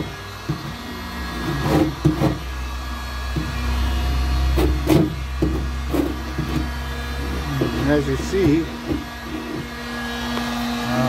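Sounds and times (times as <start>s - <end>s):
heater blowing hum: 0.0s - 11.0s.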